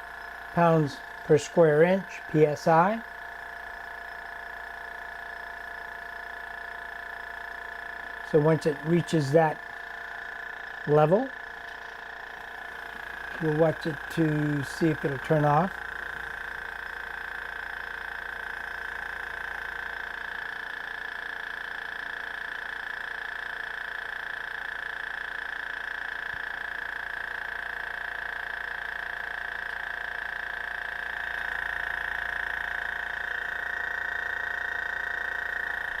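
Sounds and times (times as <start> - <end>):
airbrush compressor humming and whining: 0.0 - 36.0.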